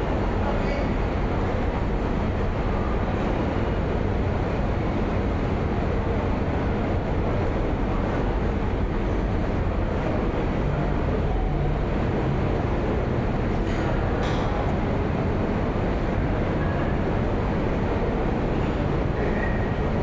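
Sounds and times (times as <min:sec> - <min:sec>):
subway station noise: 0:00.0 - 0:20.0.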